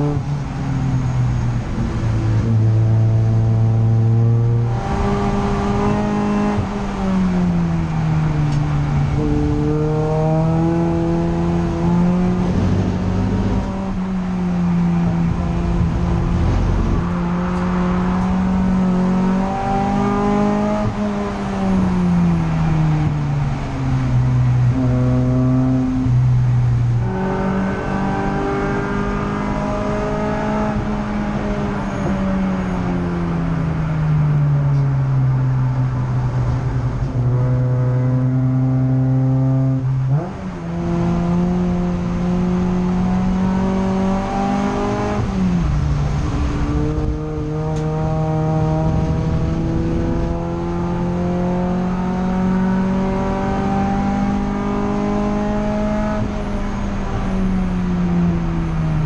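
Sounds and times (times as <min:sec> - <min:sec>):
race car engine from inside cabin: 0:00.0 - 0:59.0.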